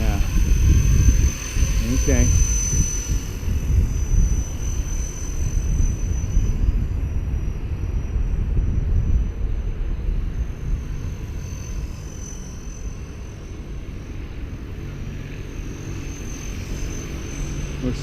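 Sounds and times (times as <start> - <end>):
heavy low rumble: 0.0 - 16.0
rc helicopter motor whine: 0.0 - 18.0.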